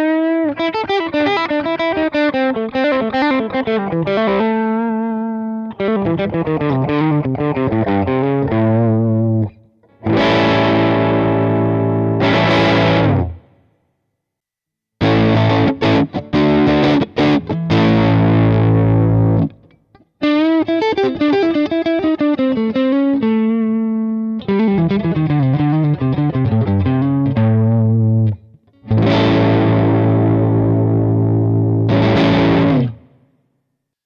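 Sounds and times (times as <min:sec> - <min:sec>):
overdriven electric guitar: 0:00.0 - 0:13.6, 0:15.0 - 0:33.3.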